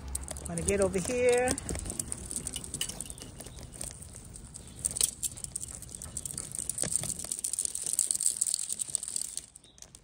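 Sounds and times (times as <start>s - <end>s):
hand rustling soil: 0.0s - 10.0s.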